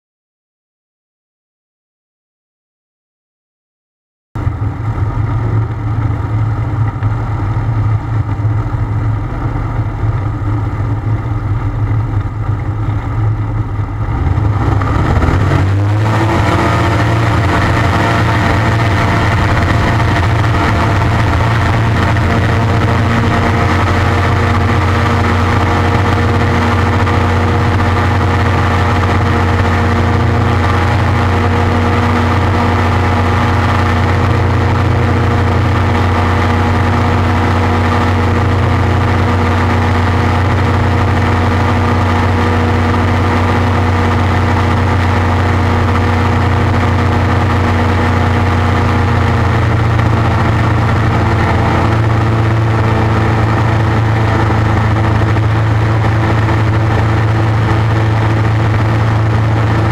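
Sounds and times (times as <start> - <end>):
ultralight aircraft engine: 4.4 - 59.9.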